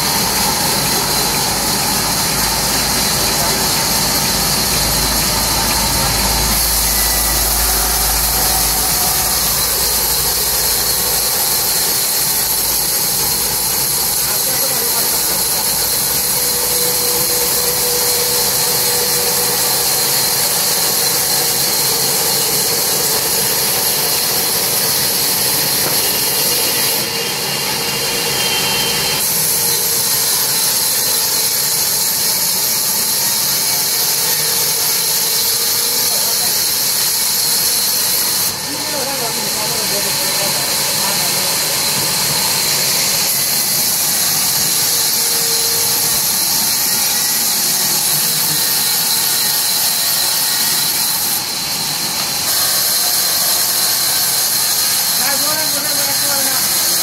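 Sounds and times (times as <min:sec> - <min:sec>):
saw cutting through log: 0:00.0 - 0:57.0.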